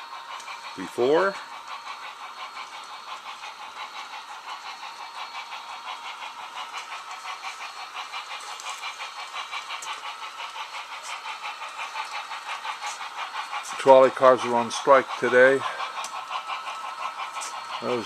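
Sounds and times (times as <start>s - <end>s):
model train clattering: 0.1s - 18.0s.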